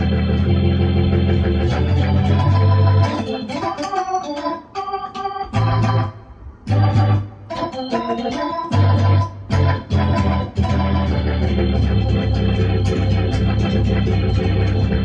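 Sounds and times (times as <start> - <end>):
keyboard playing organ gospel chords: 0.0 - 15.0.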